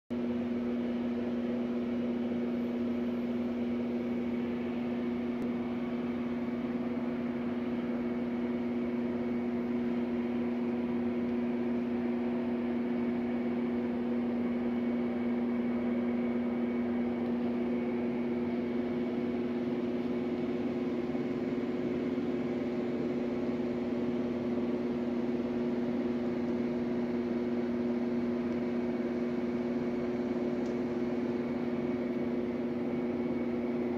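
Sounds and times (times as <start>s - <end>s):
machine hum: 0.1s - 33.9s.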